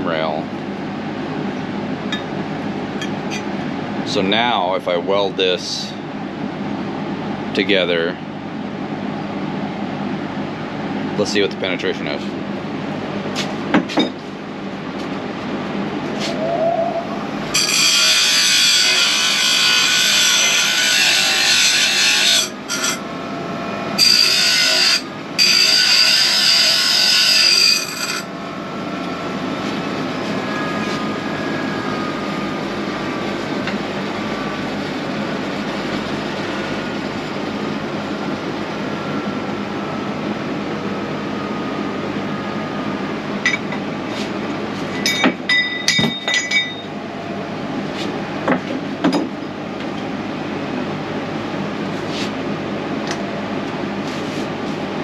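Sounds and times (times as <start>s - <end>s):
fan-like shop hum: 0.0s - 55.0s.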